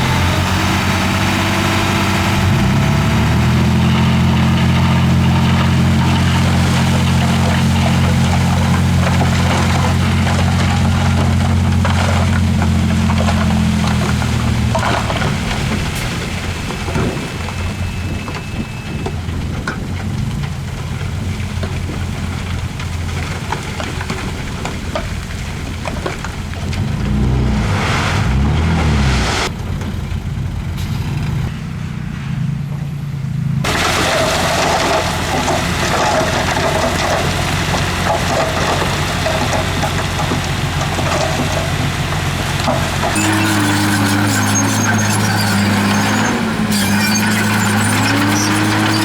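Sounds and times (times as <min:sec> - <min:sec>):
heavy diesel machinery rumbling: 0:00.0 - 0:49.0.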